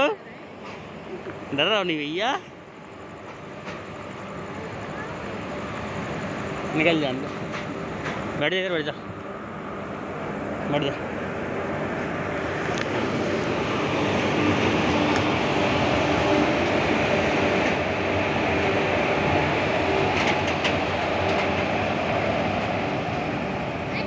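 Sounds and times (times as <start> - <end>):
train wheels rumbling on rails: 0.6 - 24.0.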